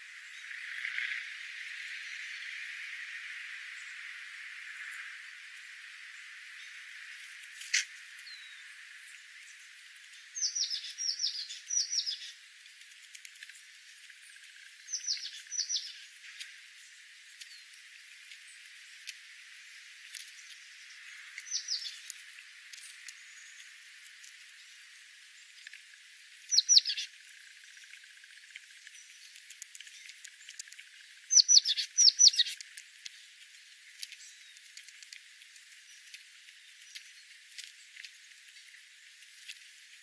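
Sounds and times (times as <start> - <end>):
small bird chirping: 6.6 - 40.0
faint ticks: 6.9 - 40.0.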